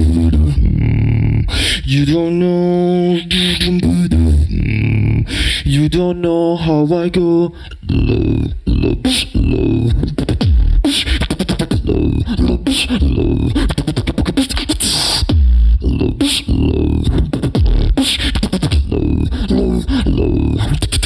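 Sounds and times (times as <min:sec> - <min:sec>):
person beatboxing into microphone: 0:00.0 - 0:21.0.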